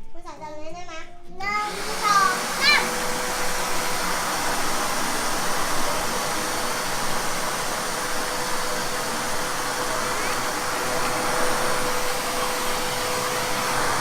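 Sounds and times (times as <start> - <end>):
vacuum cleaner running: 1.6 - 14.0.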